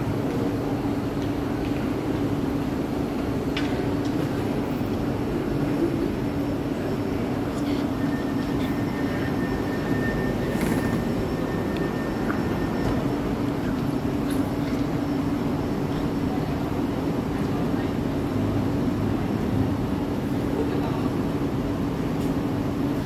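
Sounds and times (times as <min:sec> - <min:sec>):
electric train humming: 0:00.0 - 0:23.0
footsteps of passengers: 0:00.0 - 0:23.0
murmur of passengers: 0:00.0 - 0:23.0.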